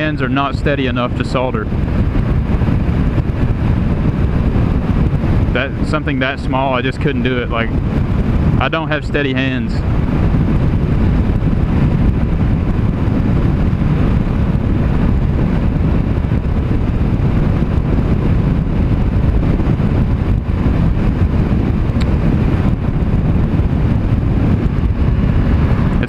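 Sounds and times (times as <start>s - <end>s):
motorcycle and road noise: 0.0s - 26.0s
wind rushing over microphone: 0.0s - 26.0s.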